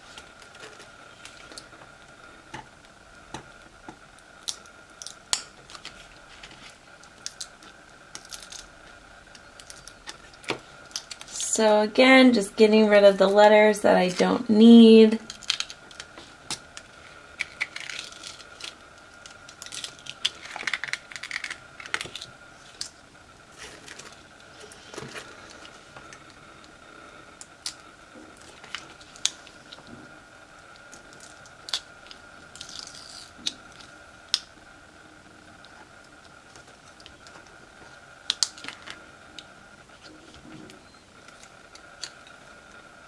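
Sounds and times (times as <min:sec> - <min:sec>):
vinyl crinkling and peeling: 0:00.0 - 0:11.8, 0:15.1 - 0:43.0.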